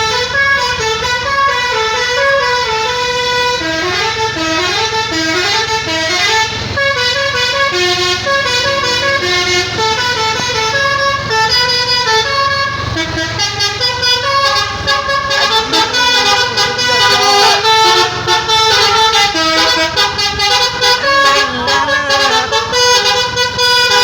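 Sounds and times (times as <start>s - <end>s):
bus engine rumble: 0.0s - 24.0s
musical air horn playing tune: 0.0s - 24.0s.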